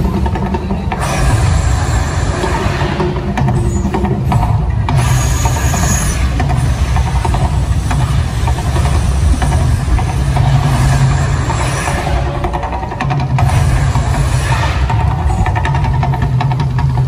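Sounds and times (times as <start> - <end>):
deep rumble: 0.0 - 17.0
gas fire jets hissing: 0.9 - 15.3.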